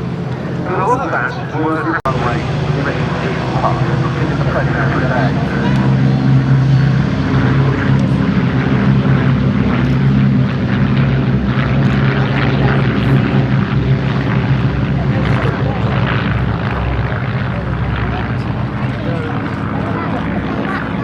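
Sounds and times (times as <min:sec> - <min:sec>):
propeller aircraft engines droning: 0:00.0 - 0:21.0.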